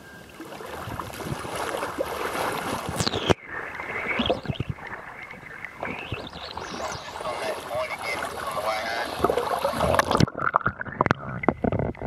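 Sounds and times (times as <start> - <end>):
water splashing against kayak: 0.0 - 12.0.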